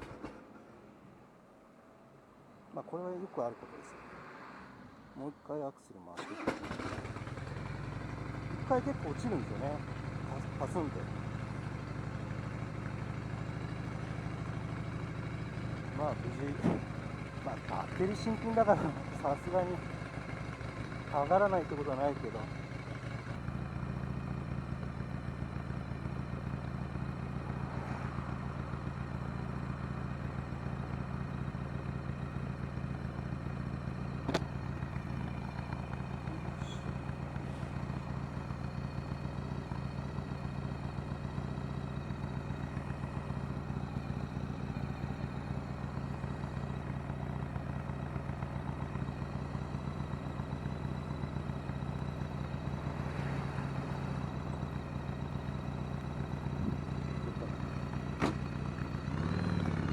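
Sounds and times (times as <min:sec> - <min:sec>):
motorcycle engine idling: 0:06.2 - 0:59.9.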